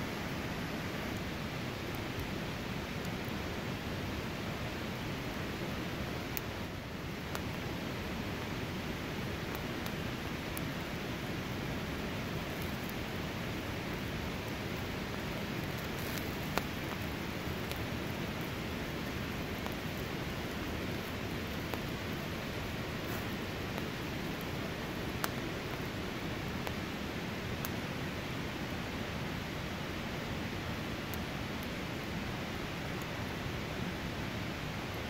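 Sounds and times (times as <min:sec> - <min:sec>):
campfire flames hissing: 0:00.0 - 0:35.0
fire crackling and popping: 0:00.0 - 0:35.0.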